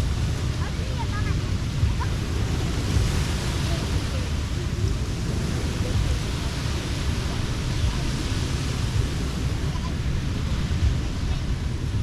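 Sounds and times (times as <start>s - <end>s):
faint distant voices: 0.0s - 12.0s
low rumble: 0.0s - 12.0s
surf washing in: 0.0s - 12.0s.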